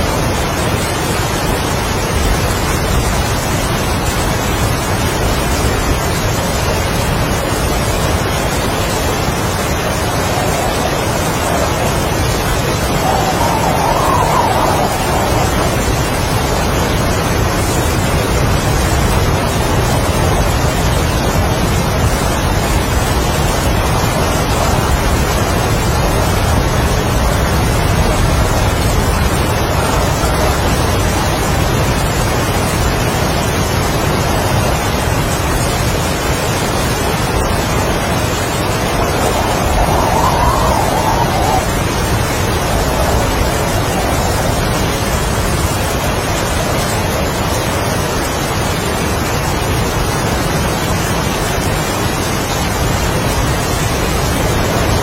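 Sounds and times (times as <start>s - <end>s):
heavy rain: 0.0s - 55.0s
strong wind: 0.0s - 55.0s.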